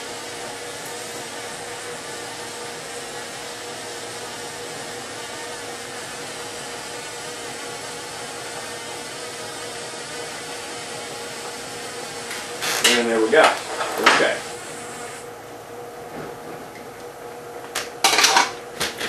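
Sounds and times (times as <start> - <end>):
torch flame hissing: 0.0 - 15.4
steady hum: 0.0 - 18.9.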